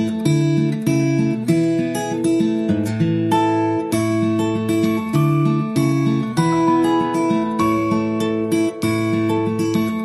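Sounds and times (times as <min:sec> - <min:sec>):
strummed guitar chords: 0:00.0 - 0:10.0.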